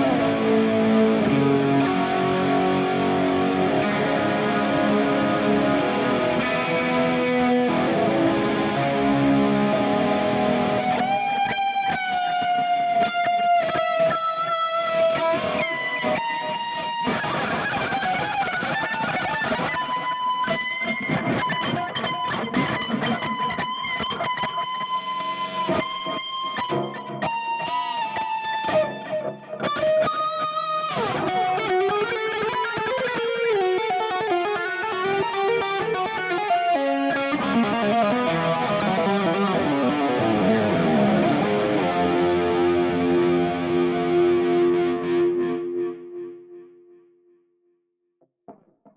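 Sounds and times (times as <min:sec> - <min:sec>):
electric guitar lead with bends: 0:00.0 - 0:47.2.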